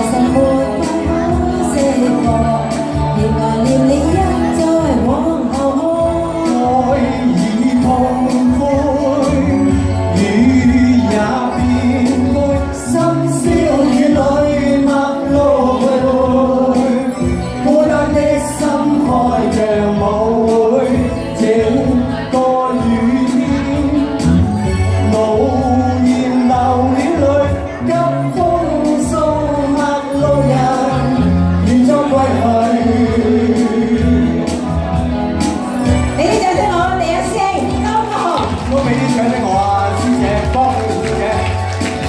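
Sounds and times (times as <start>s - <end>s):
person singing: 0.0s - 34.7s
backing music with bass line: 0.0s - 42.0s.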